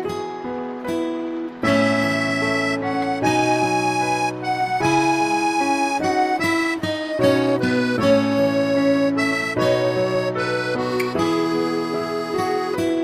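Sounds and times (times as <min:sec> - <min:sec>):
instrumental music with held notes: 0:00.0 - 0:13.0.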